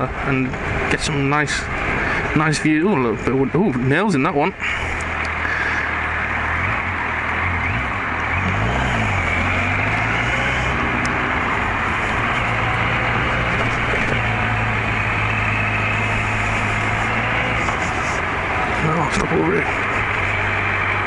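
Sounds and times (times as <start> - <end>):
wind and road rush: 0.0 - 21.0.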